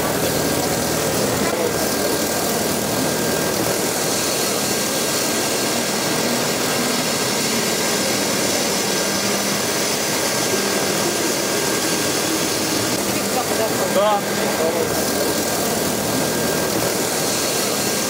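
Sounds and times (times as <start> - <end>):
laser cutter gas jet hissing: 0.0 - 18.0.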